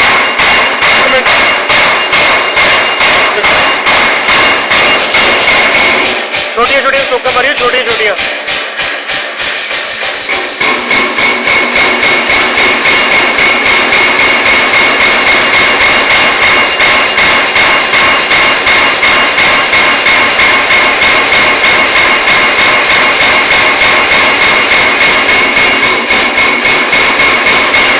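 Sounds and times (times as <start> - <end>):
high ringing: 0.0 - 27.9
power hammer blows: 0.0 - 27.9.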